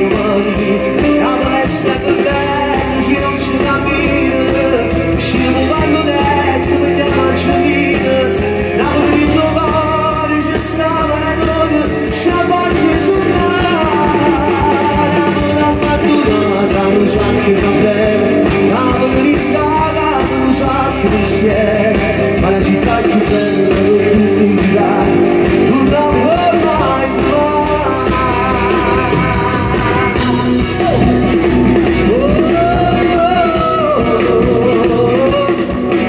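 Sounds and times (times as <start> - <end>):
live pop band with beat: 0.0 - 36.0
man singing: 0.0 - 36.0.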